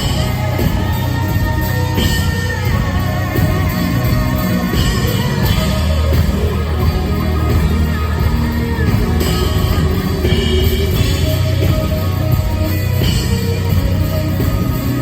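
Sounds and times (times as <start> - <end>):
country-rock band with guitars: 0.0 - 15.0.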